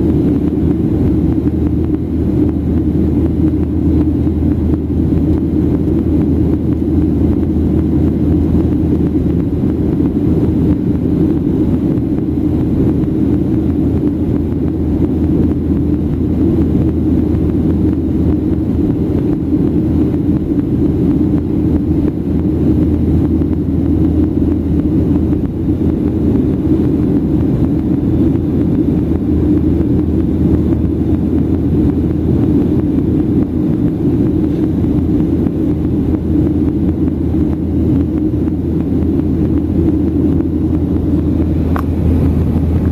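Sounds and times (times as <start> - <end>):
air rushing past fuselage: 0.0 - 42.9
jet engine drone: 0.0 - 42.9.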